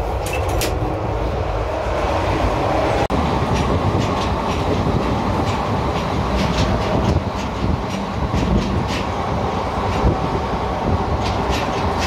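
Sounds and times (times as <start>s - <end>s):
wheels clattering over rails: 0.0s - 1.2s, 3.2s - 12.0s
train coach running rumble: 0.0s - 12.0s.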